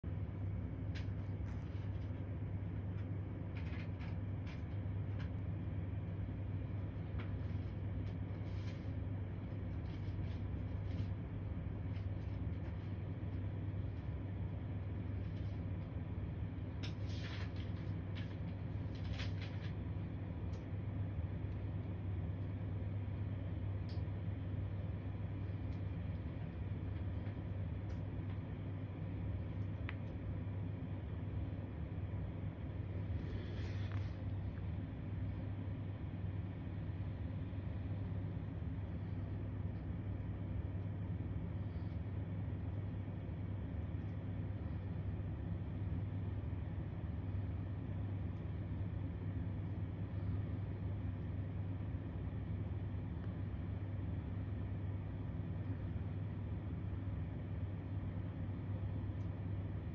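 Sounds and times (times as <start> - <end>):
low background hum: 0.0 - 59.9.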